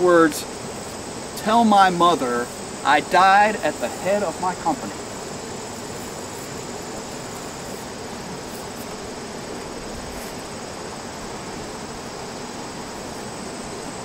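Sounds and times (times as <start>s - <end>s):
insects trilling: 0.0s - 14.0s
outdoor hiss: 0.0s - 14.0s.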